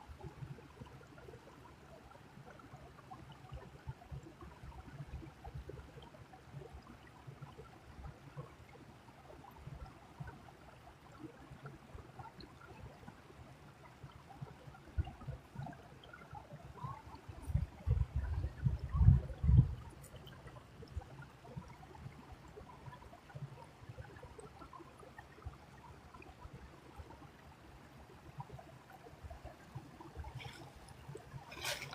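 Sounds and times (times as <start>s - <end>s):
creek water trickling: 0.0s - 31.9s.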